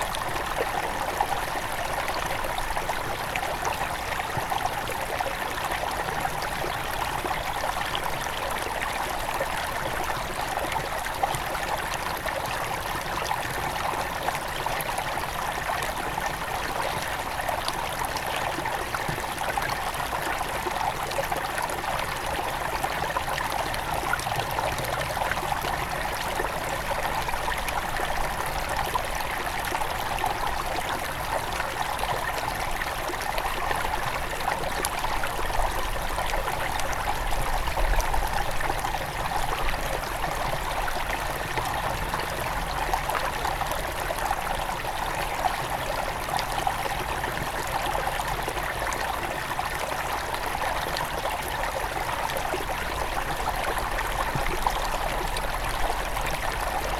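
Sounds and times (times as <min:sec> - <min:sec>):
river flowing over stones: 0:00.0 - 0:56.9.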